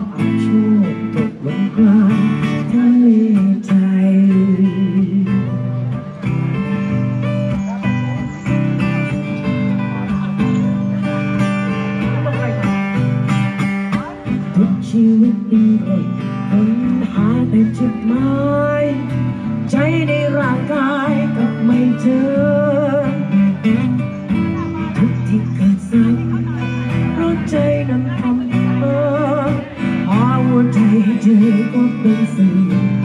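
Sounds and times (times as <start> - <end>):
acoustic guitars strumming: 0.0 - 33.0.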